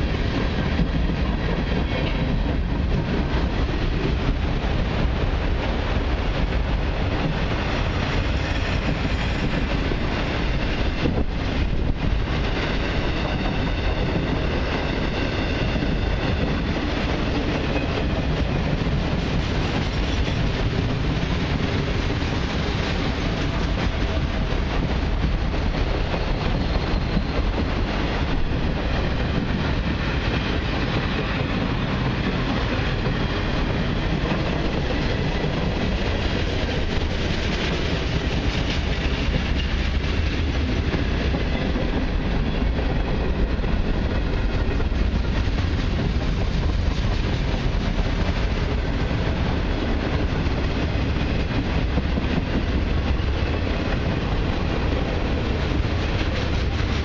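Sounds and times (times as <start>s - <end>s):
freight train wheels rolling on rails: 0.0s - 57.0s.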